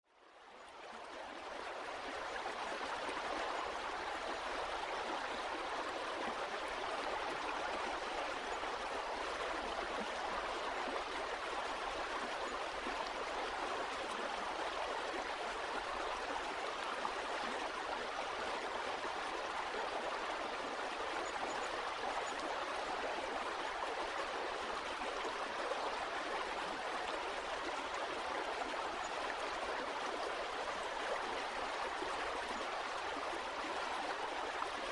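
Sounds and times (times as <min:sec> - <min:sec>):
flowing water rushing: 0:00.2 - 0:34.9.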